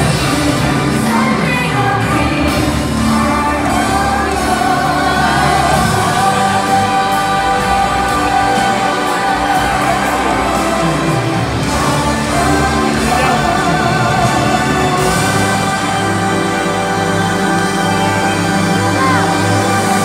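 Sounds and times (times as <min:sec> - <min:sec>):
song over sound system: 0:00.0 - 0:20.0.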